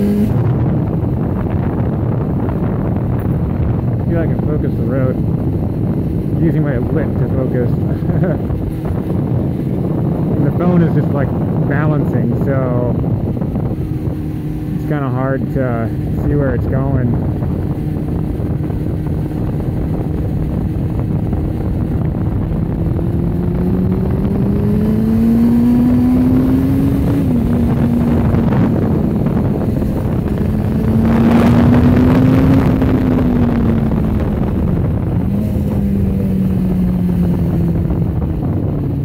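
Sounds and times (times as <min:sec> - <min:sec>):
motorcycle engine running: 0:00.0 - 0:39.0
wind noise on microphone: 0:00.0 - 0:39.0.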